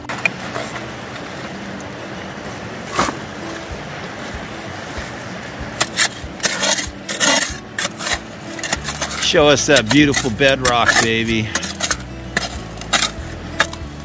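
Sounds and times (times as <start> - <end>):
river water rushing: 0.0 - 14.0
shovel scraping sand and gravel: 2.7 - 14.0.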